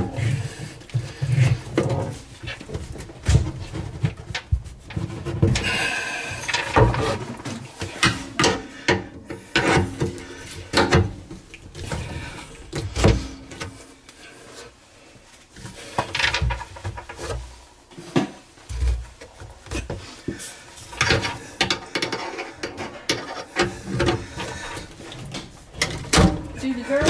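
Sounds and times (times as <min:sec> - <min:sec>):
hard parts knocking and scraping: 0:00.0 - 0:13.8, 0:15.6 - 0:27.0.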